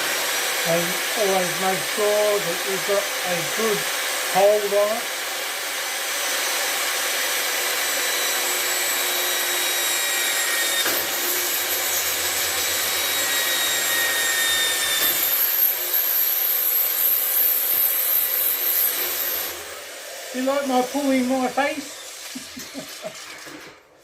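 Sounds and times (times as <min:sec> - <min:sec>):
electric drill running: 0:00.0 - 0:23.7.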